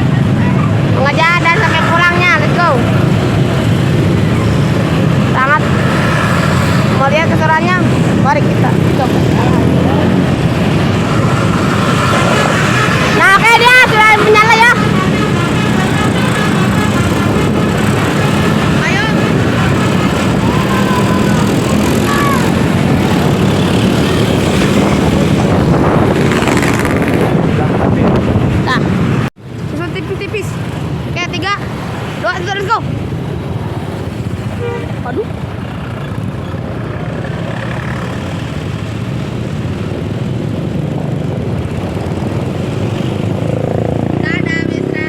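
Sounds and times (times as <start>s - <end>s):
road noise: 0.0s - 45.0s
wind rush: 0.0s - 45.0s.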